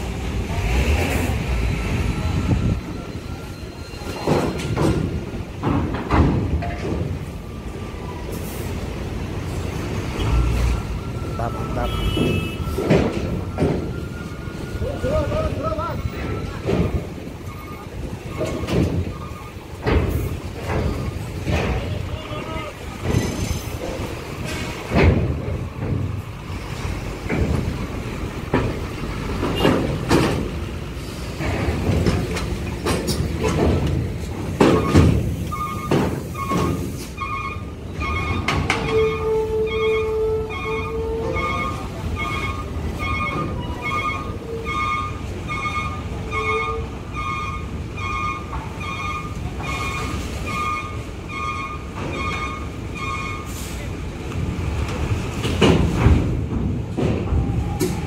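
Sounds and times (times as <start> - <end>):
trucks clanking over steel ramp: 0.0 - 58.0.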